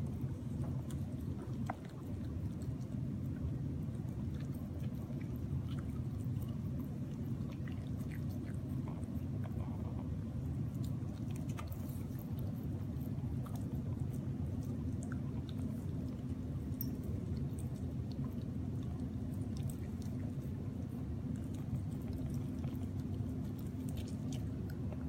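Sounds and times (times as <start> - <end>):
low background hum: 0.0 - 25.0
puppy licking and chewing: 0.0 - 25.0.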